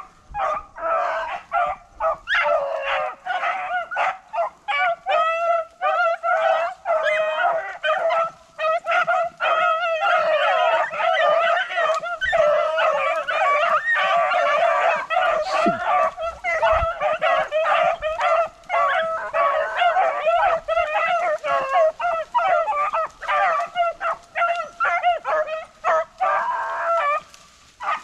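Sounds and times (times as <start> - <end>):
dogs baying and yelping: 0.0 - 28.0.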